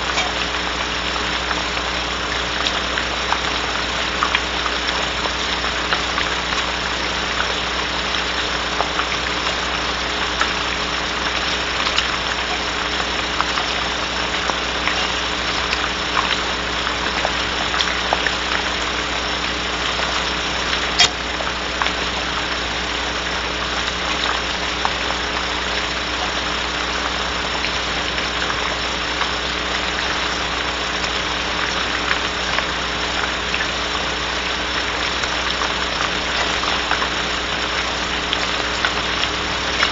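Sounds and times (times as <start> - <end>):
electrical hum: 0.0 - 39.9
rain on wooden box: 0.0 - 39.9.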